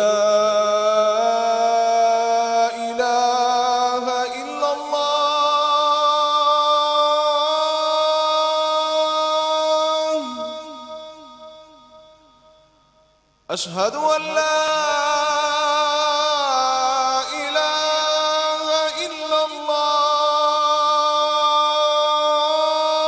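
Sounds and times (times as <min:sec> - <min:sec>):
man chanting call to prayer: 0:00.0 - 0:11.8, 0:13.5 - 0:23.0.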